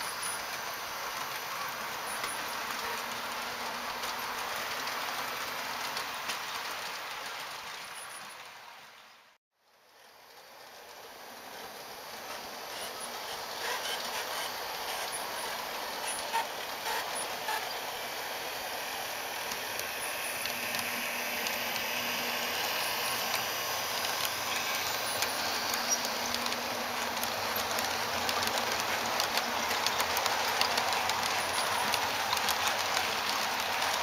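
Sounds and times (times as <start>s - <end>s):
model train wheels rattling on track: 0.0s - 8.8s, 9.7s - 34.0s.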